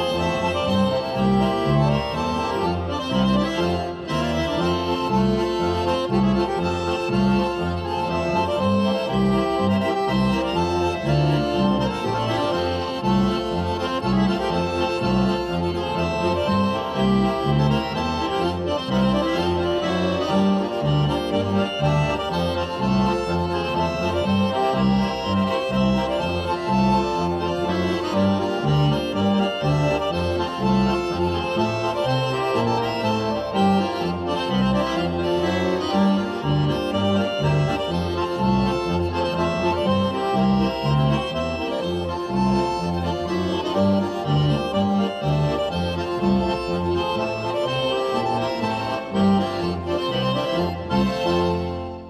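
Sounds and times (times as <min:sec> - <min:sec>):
accordion dance tune: 0:00.0 - 0:52.0
oom-pah bass: 0:00.0 - 0:52.0.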